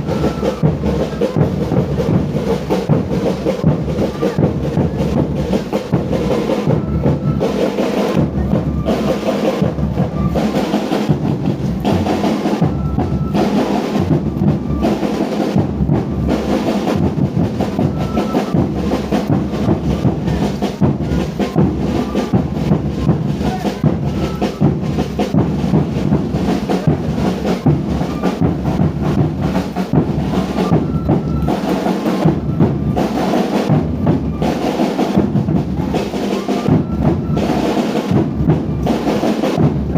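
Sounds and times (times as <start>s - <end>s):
drum band playing: 0.0s - 39.9s.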